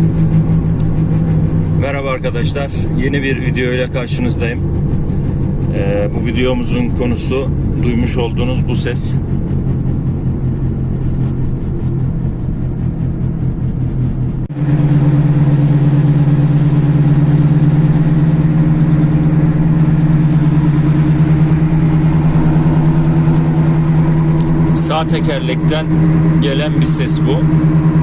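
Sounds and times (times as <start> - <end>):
droning wheel hum: 0.0 - 28.0.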